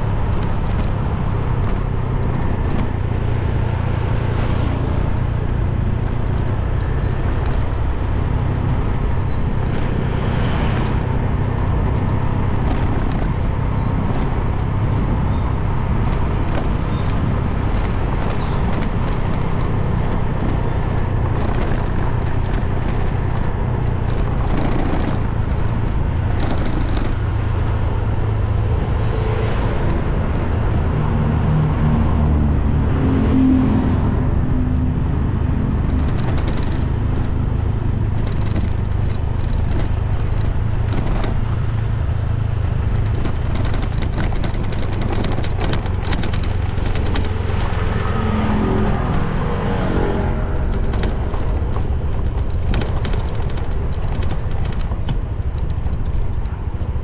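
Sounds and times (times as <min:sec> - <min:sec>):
motorbike engine running: 0:00.0 - 0:57.0
passing traffic: 0:00.0 - 0:57.0
road and wind noise: 0:00.0 - 0:57.0.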